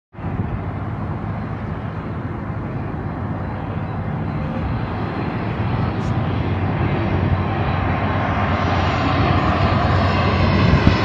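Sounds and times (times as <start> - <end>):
jet airliner flying overhead: 0.1 - 11.0.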